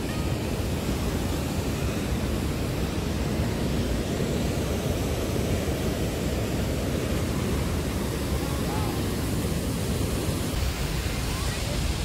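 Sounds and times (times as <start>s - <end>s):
roar of churning white-water: 0.0s - 12.0s.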